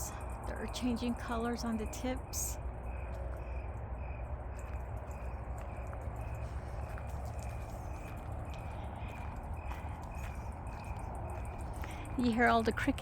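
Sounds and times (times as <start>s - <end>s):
crickets chirping: 0.0s - 13.0s
steady low rumble: 0.0s - 13.0s.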